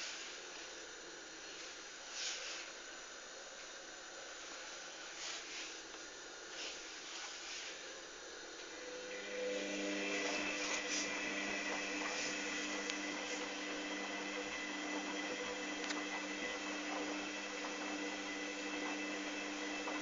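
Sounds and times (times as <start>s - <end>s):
washing machine motor whine: 0.0s - 20.0s.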